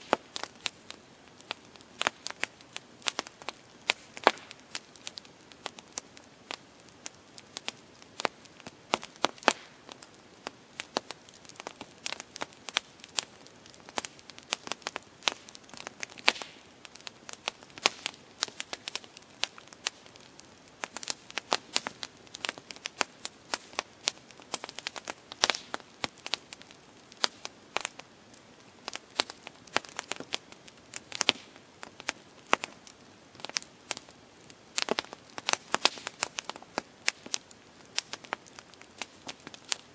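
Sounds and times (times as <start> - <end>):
campfire crackling: 0.0 - 39.9
soft steady hiss: 0.0 - 39.9.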